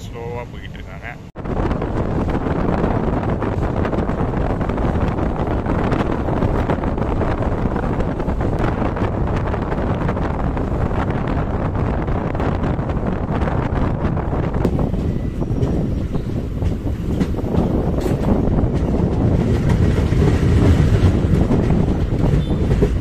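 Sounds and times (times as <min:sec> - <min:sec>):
train rumbling on rails: 0:00.0 - 0:23.0
wind buffeting microphone: 0:00.0 - 0:23.0.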